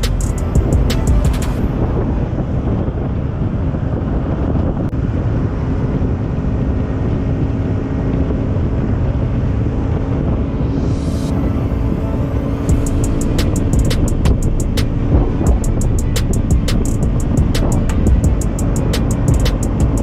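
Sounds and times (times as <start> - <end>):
motorcycle engine humming: 0.0 - 20.0
wind buffeting microphone: 0.0 - 20.0.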